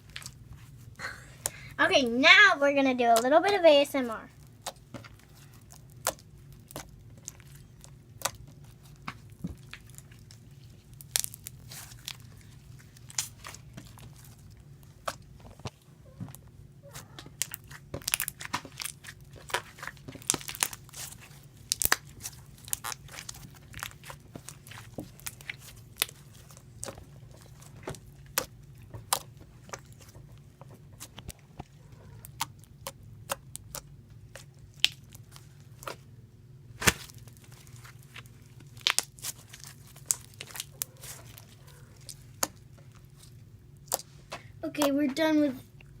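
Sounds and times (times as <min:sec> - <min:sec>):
slime squeezed popping and crackling: 0:04.3 - 0:15.8, 0:17.0 - 0:36.1, 0:36.8 - 0:44.1.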